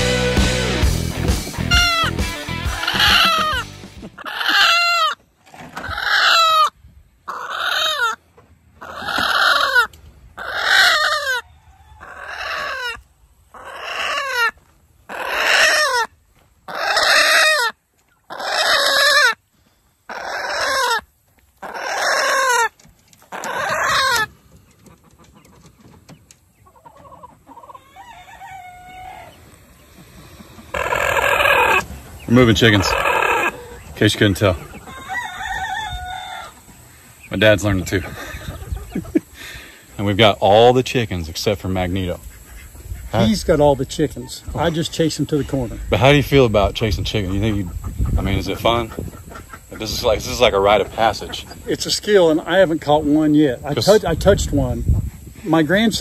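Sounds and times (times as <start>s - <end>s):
chicken squawking: 0.0s - 5.2s, 5.8s - 19.4s, 20.1s - 26.0s, 26.6s - 40.1s, 41.8s - 53.0s
faint chicken clucks: 1.6s - 5.2s, 5.8s - 19.4s, 20.0s - 40.1s, 41.7s - 54.0s.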